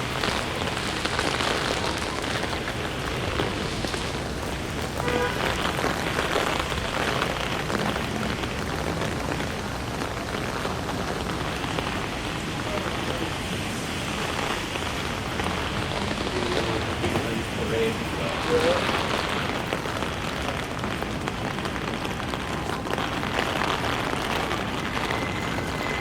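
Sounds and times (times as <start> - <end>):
rain splashing on a wet street: 0.0 - 26.0.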